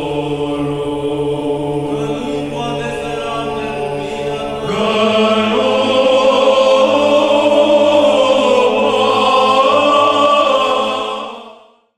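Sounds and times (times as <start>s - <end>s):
choir singing long chords: 0.0s - 11.9s.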